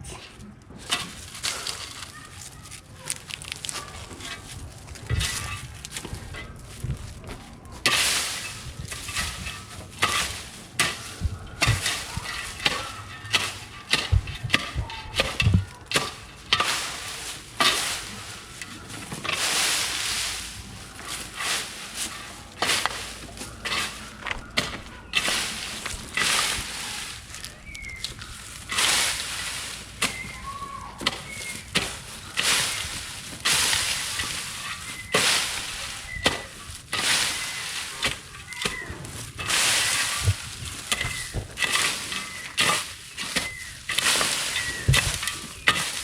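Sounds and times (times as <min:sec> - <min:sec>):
dry plant material crackling: 0:00.0 - 0:46.0.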